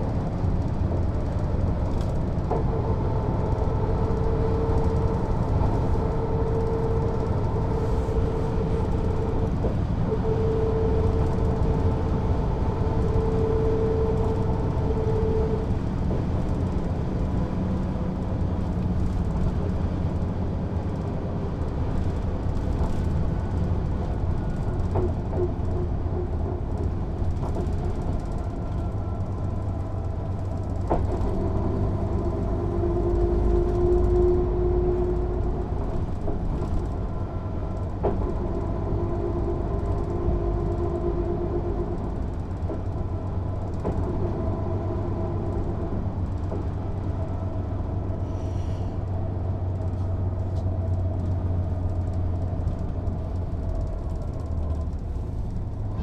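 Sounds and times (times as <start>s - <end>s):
bus diesel engine running: 0.0s - 56.0s
bus whine: 0.0s - 56.0s.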